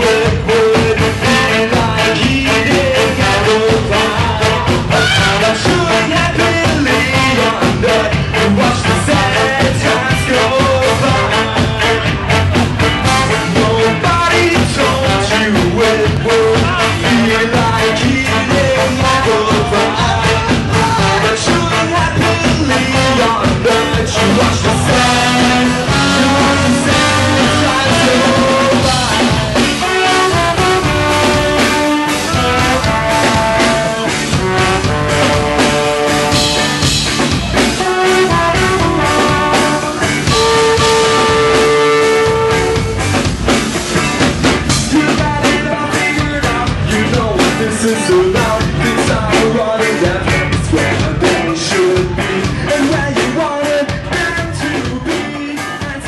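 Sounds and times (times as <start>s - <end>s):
busy drum beat: 0.0s - 56.0s
ska-punk band playing live: 0.0s - 56.0s
trombone and horns: 0.0s - 56.0s.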